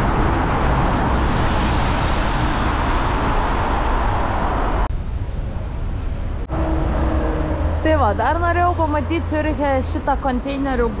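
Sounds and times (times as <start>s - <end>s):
wind rush on microphone: 0.0s - 10.0s
road and traffic noise: 0.0s - 11.0s.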